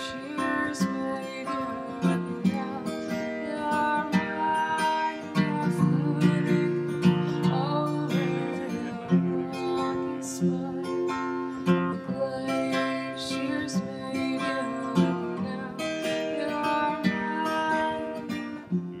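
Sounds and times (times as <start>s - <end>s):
strummed guitar music: 0.0s - 19.0s.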